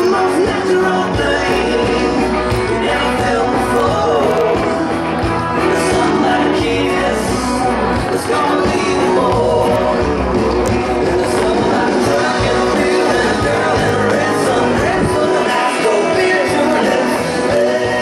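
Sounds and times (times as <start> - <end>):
country song with steady beat: 0.0 - 18.0.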